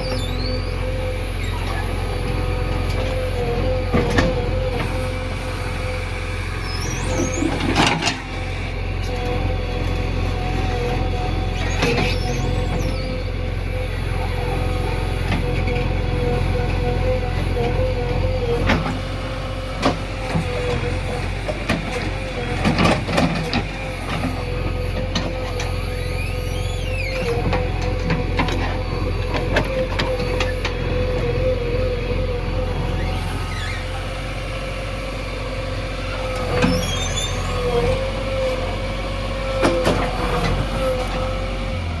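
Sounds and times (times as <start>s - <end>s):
diesel engine with whine: 0.0s - 42.0s.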